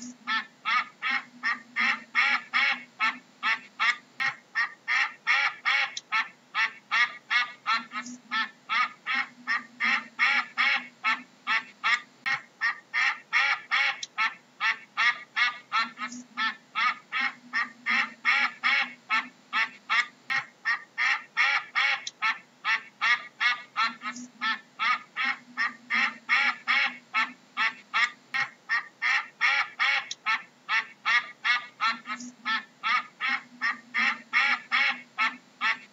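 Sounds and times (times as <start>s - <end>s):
duck quacking: 0.0s - 35.9s.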